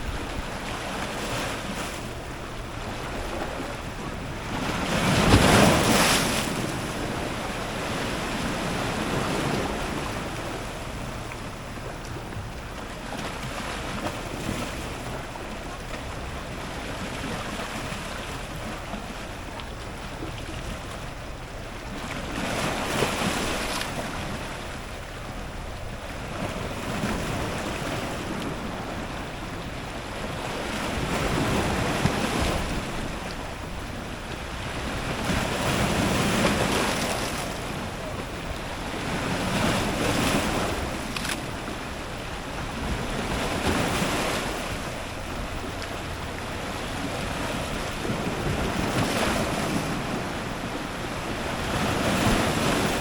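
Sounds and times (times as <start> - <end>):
ocean surf breaking on rocks: 0.0 - 53.0.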